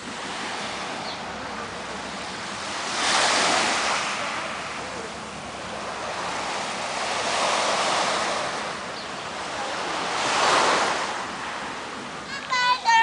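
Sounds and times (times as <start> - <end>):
waves washing onto sand: 0.0 - 13.0.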